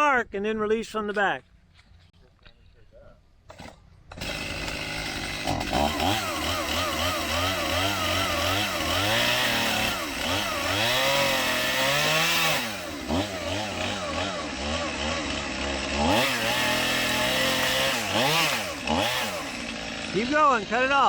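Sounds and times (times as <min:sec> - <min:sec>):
chainsaw cutting wood: 0:03.5 - 0:21.0.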